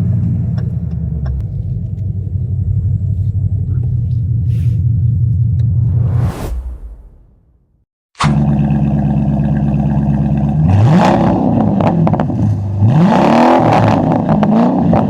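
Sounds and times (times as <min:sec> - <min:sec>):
car engine idling and revving: 0:00.0 - 0:06.2, 0:08.2 - 0:15.0.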